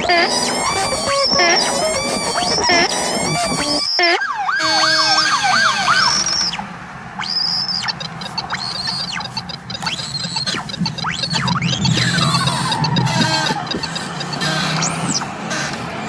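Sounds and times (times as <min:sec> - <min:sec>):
high wavering tones: 0:00.0 - 0:15.3
warbling squealing tones: 0:00.0 - 0:15.8
police siren: 0:00.0 - 0:15.9
road noise: 0:00.0 - 0:16.0.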